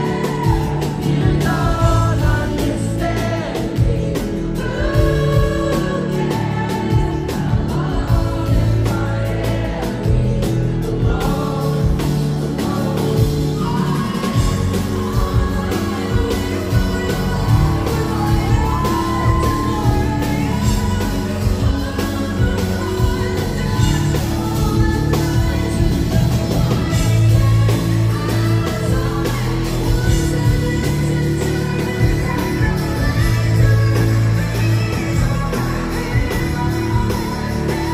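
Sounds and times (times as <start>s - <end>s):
live pop band playing: 0.0s - 37.9s
woman singing into microphone: 0.0s - 37.9s.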